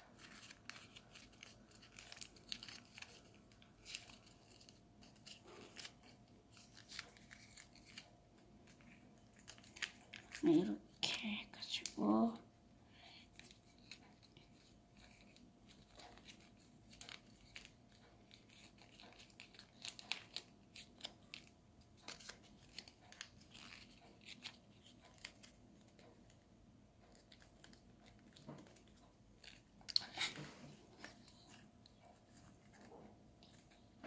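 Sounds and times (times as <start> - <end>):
paper crinkling: 0.0 - 12.0, 13.1 - 26.4, 27.0 - 34.0.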